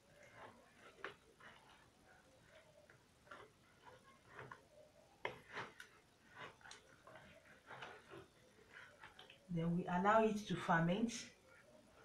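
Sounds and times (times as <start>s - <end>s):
hands kneading dough: 0.0s - 9.9s, 11.2s - 12.0s.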